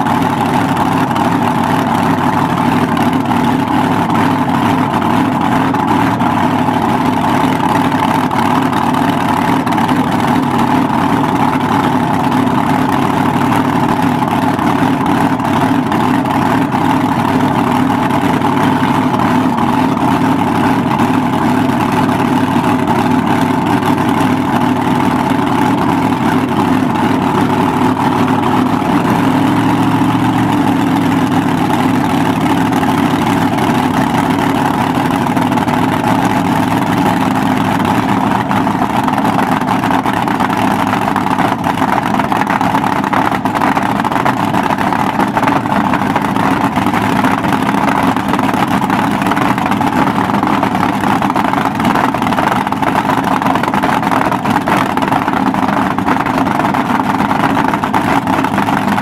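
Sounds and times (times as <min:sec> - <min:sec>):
dragster engine idling: 0:00.0 - 0:59.0.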